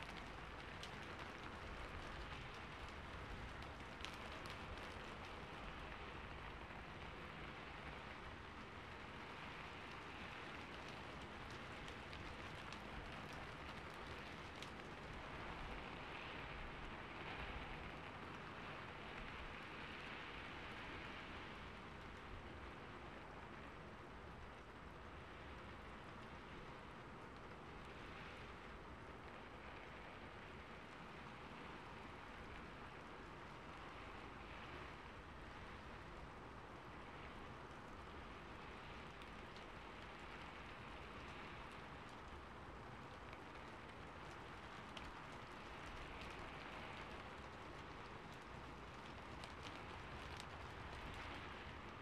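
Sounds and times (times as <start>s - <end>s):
faint rain-like hiss: 0.0s - 52.0s.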